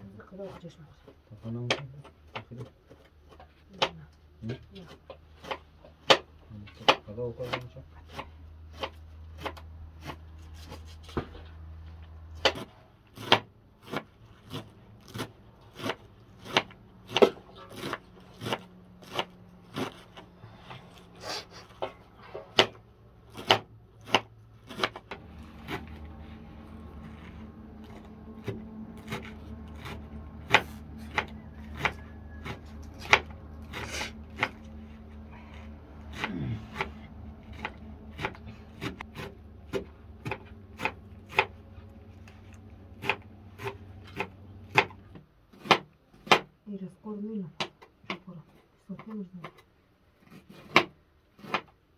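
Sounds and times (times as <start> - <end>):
knife chopping greens on a board: 0.3 - 11.4, 12.4 - 20.2, 21.7 - 41.6, 42.2 - 46.5, 50.2 - 51.7.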